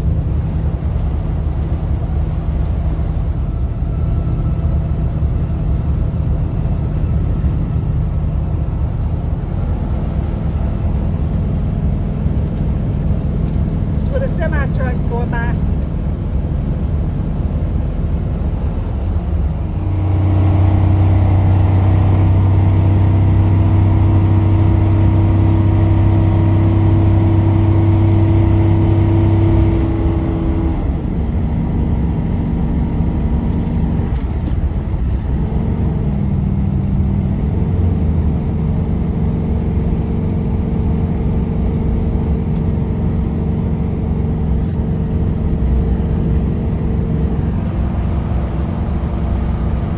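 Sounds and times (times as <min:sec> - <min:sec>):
engine drone: 0:00.0 - 0:49.9
road noise: 0:00.0 - 0:49.9.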